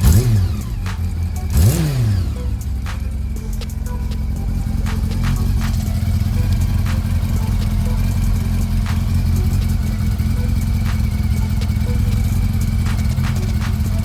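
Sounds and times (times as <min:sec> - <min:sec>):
motorcycle engine idling: 0:00.0 - 0:14.0
sharp engine ticking: 0:00.0 - 0:14.0.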